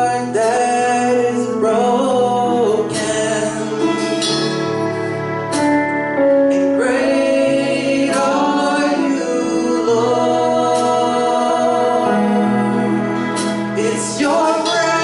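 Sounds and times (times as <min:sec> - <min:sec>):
singers holding long notes: 0:00.0 - 0:15.0
sustained instrumental chords: 0:00.0 - 0:15.0.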